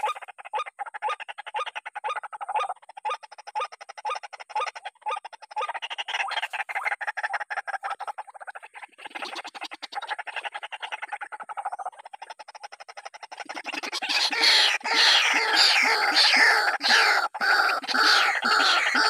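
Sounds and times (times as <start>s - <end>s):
waterhen harsh calls: 0.0s - 19.0s.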